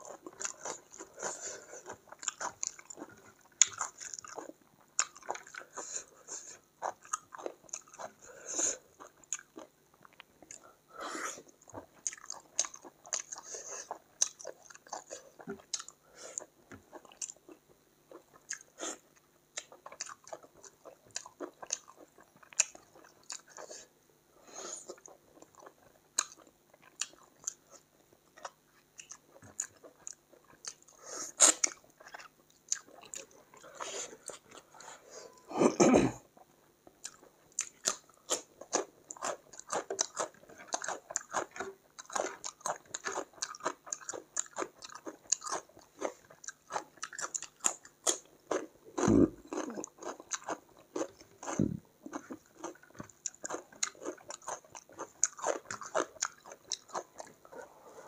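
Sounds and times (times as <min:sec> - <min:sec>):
close-up chewing and mouth clicks: 0:00.0 - 0:10.8, 0:11.4 - 0:24.0, 0:24.7 - 0:35.5, 0:36.3 - 0:58.0.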